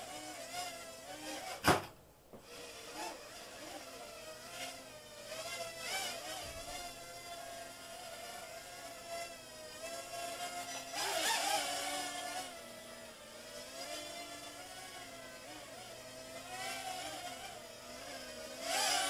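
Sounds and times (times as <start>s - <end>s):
quadcopter propellers whining: 0.0s - 1.8s, 2.4s - 19.0s.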